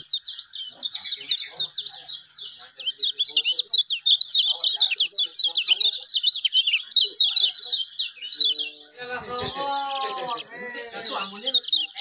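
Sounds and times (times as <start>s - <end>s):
bird twittering song: 0.0s - 12.0s.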